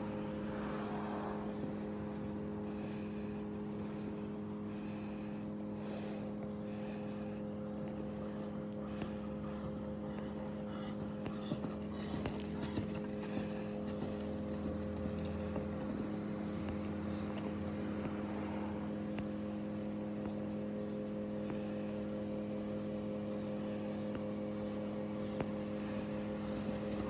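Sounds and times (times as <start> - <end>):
low motor hum: 0.0 - 27.0.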